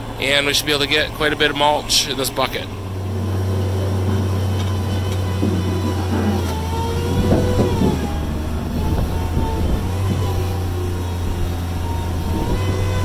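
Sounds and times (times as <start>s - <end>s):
diesel engine under load: 0.0s - 13.0s
hydraulic whining: 0.0s - 13.0s.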